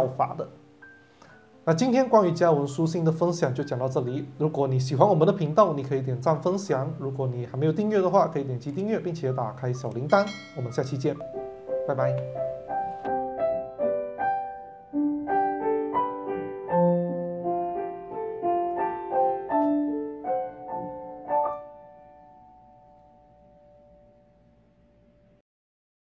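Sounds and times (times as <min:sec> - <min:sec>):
solo piano music: 0:00.0 - 0:25.4.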